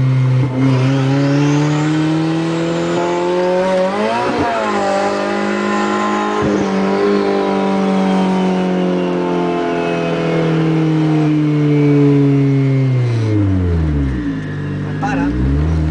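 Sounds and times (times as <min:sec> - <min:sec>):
car engine at high revs: 0:00.0 - 0:15.9.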